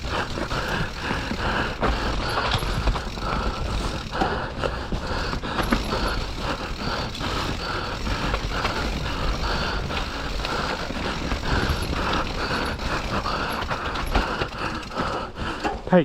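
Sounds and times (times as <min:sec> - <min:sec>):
bike rattling over rough ground: 0:00.0 - 0:16.0.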